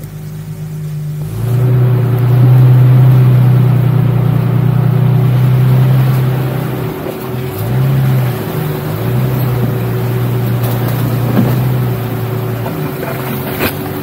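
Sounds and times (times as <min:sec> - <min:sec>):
engine running at low revs: 0:00.0 - 0:14.0.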